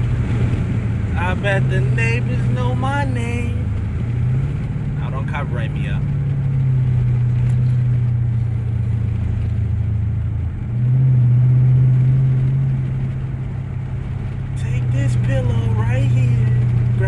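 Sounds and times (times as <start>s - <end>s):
car engine drone: 0.0s - 17.0s.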